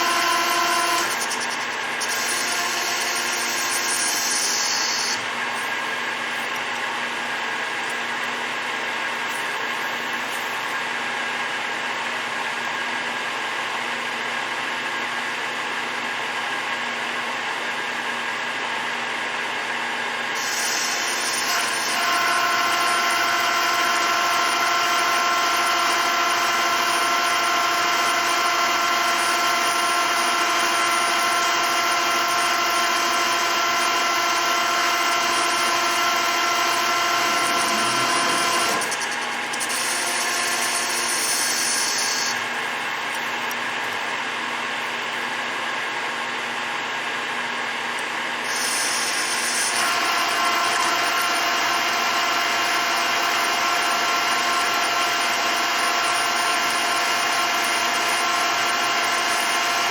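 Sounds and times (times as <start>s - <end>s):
lathe cutting whine: 0.0s - 59.9s
lathe running: 0.0s - 59.9s.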